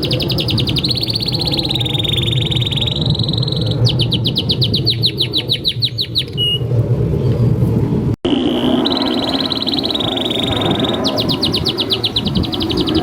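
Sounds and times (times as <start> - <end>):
canary song: 0.0 - 6.7, 8.3 - 13.0.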